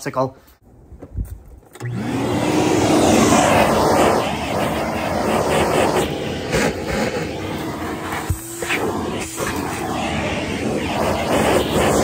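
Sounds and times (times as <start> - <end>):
vacuum cleaner sucking carpet: 1.8 - 12.0.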